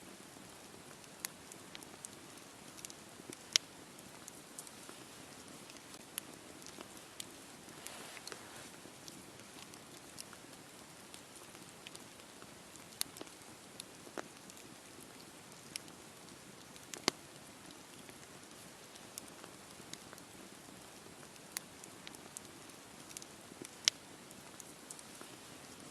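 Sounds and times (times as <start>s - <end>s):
campfire crackling and hissing: 0.0s - 25.9s.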